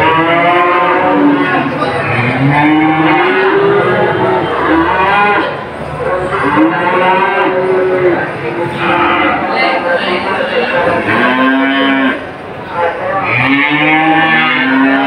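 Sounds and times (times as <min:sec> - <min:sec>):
cattle mooing: 0:00.0 - 0:09.8, 0:10.4 - 0:12.3, 0:13.1 - 0:15.0.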